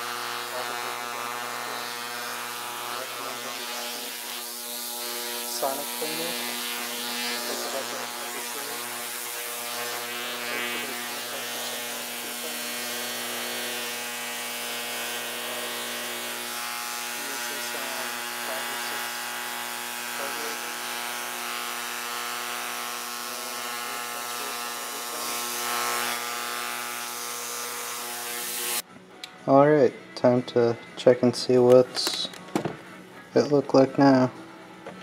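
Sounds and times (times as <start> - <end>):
ultrasonic cleaner buzzing: 0.0 - 28.8.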